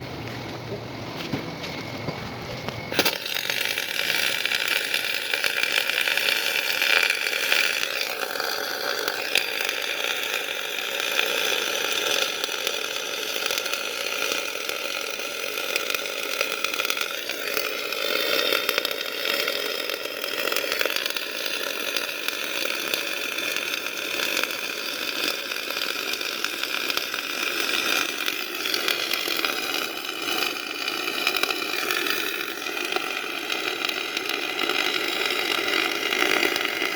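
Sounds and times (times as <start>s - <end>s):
welding arc buzzing hiss: 0.1s - 36.9s.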